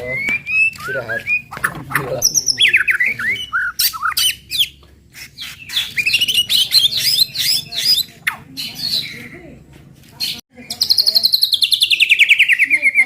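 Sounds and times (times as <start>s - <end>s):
bird singing chirps and whistles: 0.0s - 9.2s, 10.6s - 13.0s.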